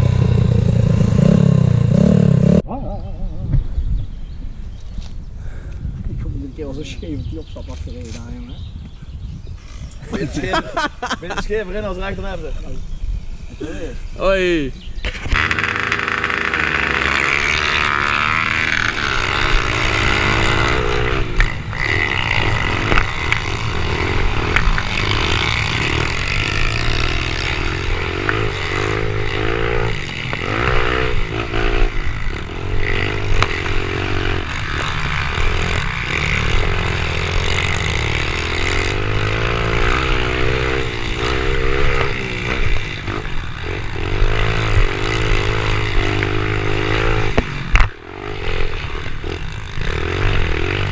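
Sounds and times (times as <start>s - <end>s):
pit bike engines revving: 0.0s - 2.7s, 9.5s - 50.9s.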